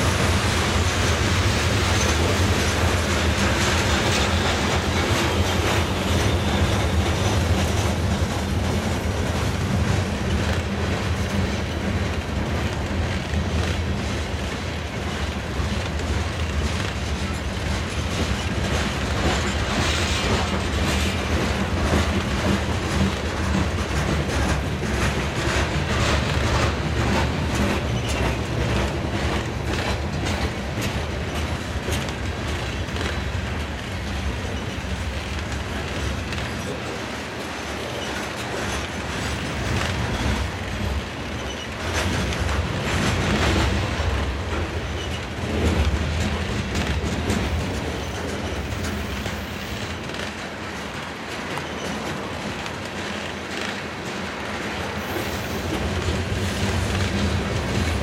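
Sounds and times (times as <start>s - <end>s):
steel wheels rumbling on rail: 0.0s - 58.0s
wheels clacking over rail joints: 0.0s - 58.0s.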